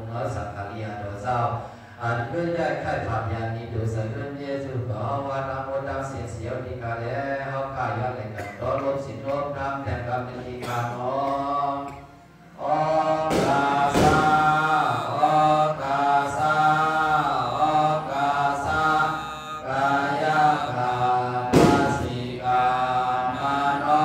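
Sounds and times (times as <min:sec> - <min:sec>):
monk chanting into microphone: 0:00.0 - 0:24.0.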